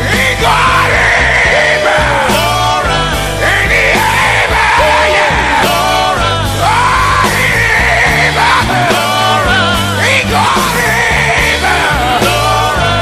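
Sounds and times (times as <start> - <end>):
band with bass line: 0.0 - 13.0
gospel singer shouting style: 0.0 - 13.0.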